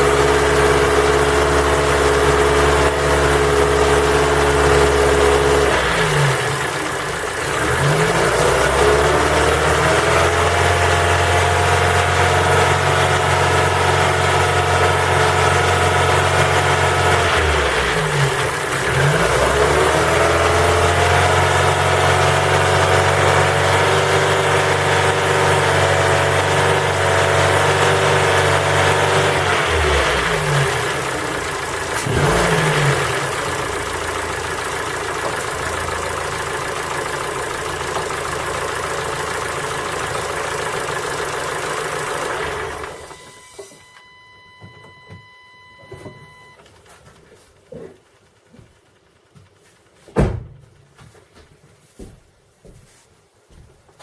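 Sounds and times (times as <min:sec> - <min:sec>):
car engine revving and idling: 0:00.0 - 0:43.5.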